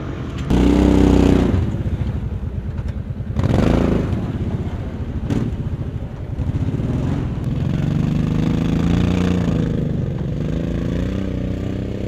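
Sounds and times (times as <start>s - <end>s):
off-road vehicle engine revving: 0.5s - 2.2s, 3.3s - 12.0s.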